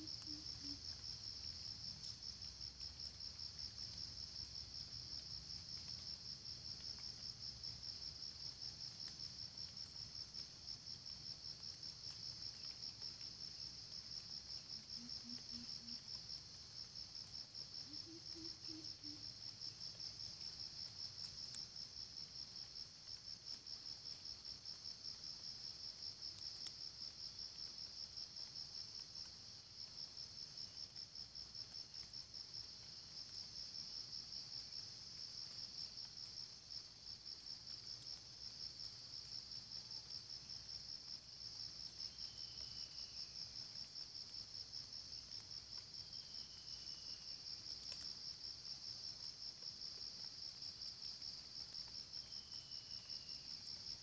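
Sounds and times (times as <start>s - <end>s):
insect chorus trilling: 0.0s - 21.6s, 25.9s - 54.0s.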